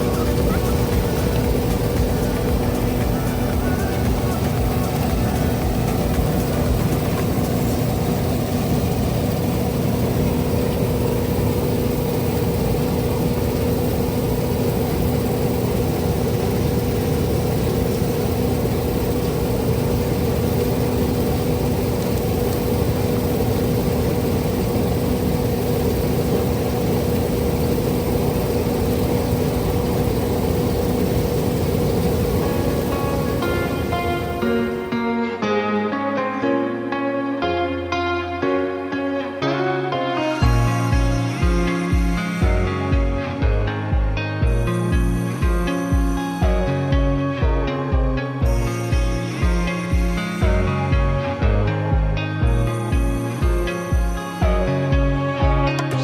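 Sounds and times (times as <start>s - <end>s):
engine running steadily: 0.0s - 35.4s, 40.4s - 56.0s.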